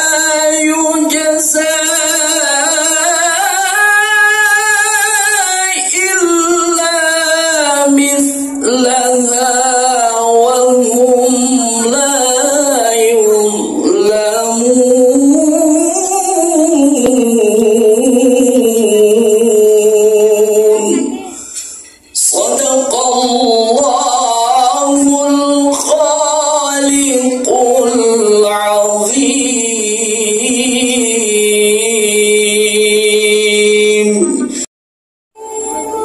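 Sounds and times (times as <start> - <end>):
person singing slow melody: 0.0 - 34.7, 35.4 - 36.0.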